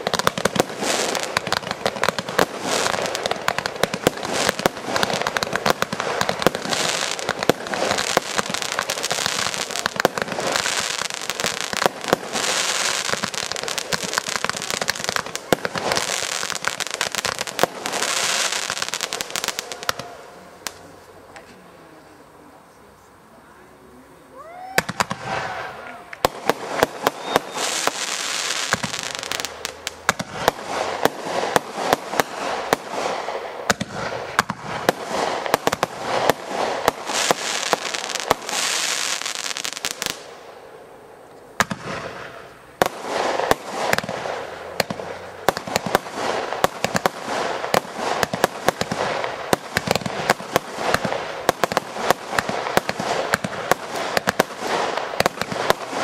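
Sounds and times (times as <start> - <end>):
fireworks bangs: 0.0 - 40.9, 41.5 - 56.0
fireworks hissing crackle: 0.0 - 56.0.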